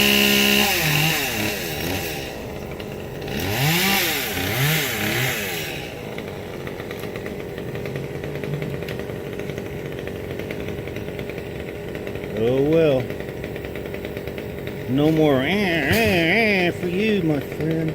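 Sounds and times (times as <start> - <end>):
small engine revving: 0.0 - 17.9.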